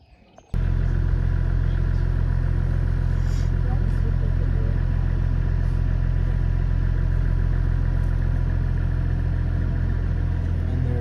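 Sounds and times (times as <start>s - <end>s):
vehicle engine idling: 0.5s - 11.0s.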